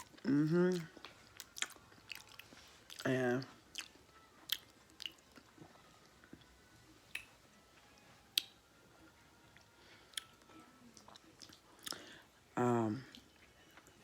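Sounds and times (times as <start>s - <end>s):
quiet chewing: 0.0s - 7.4s, 8.3s - 12.3s.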